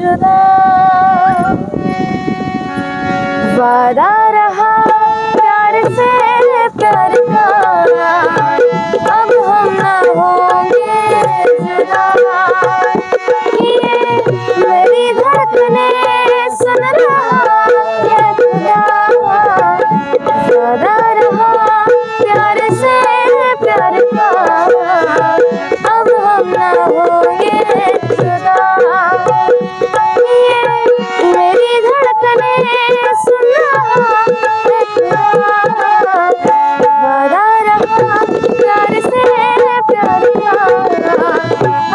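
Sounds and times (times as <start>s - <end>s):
bending melody line: 0.0s - 41.9s
hand drum playing a rhythm: 4.6s - 41.9s.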